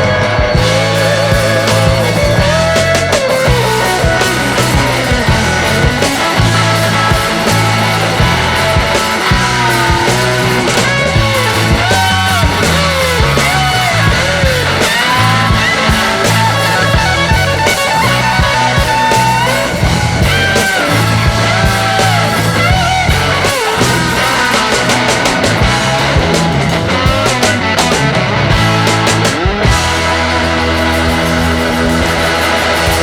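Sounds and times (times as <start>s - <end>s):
rock music with distorted guitar: 0.0s - 33.0s.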